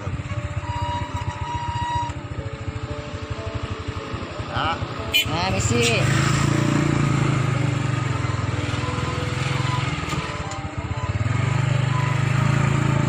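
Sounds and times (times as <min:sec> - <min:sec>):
motor scooter engine running: 0:00.0 - 0:13.0.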